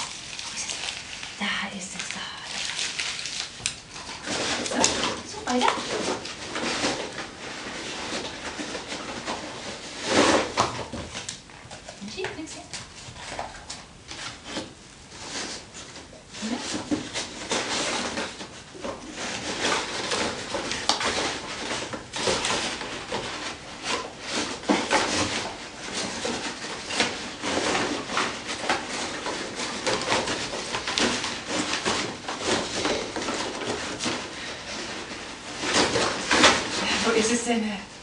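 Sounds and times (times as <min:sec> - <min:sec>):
cardboard tubes clattering: 0:00.0 - 0:01.4, 0:02.0 - 0:38.0.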